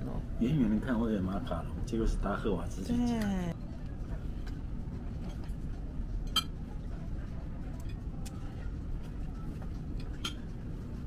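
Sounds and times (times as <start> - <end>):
restaurant room rumble: 0.0 - 11.0.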